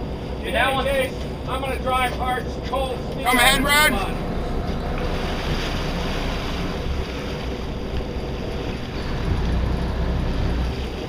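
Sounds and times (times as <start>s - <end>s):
steady low rumble: 0.0s - 11.0s
water splashing along boat: 0.0s - 11.0s
wind buffeting microphone: 1.3s - 11.0s.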